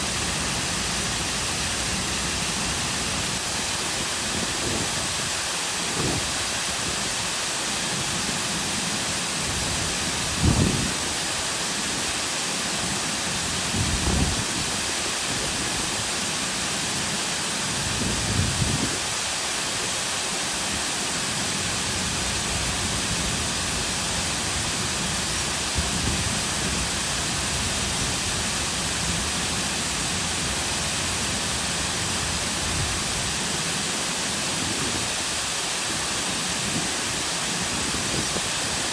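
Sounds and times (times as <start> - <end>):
waterfall rushing into lake: 0.0 - 38.9.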